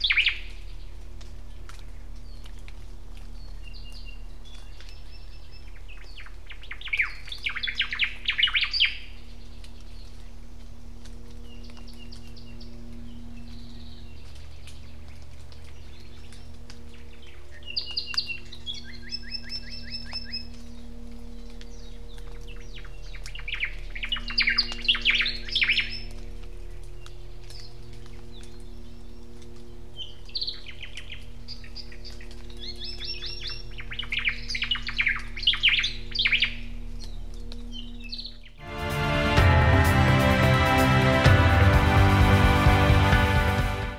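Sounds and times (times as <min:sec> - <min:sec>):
forest birds singing: 0:00.0 - 0:39.3
low steady hum: 0:00.0 - 0:43.9.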